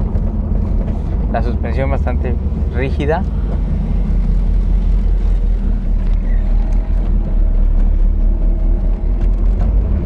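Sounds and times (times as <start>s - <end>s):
car engine low drone: 0.0s - 10.0s
road noise: 0.0s - 10.0s.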